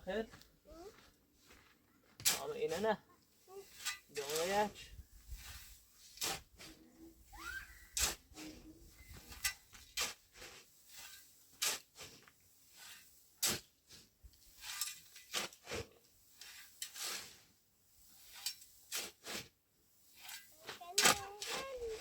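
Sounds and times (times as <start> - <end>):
rustling scrapes: 0.7 - 22.0.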